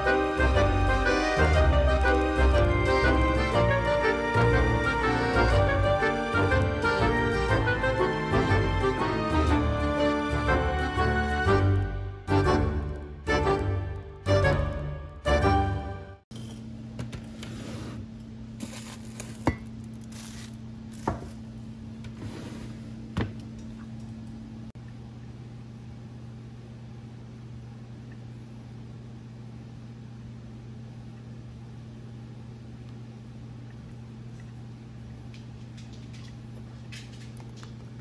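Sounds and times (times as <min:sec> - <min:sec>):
appliance electrical hum: 0:00.0 - 0:38.0.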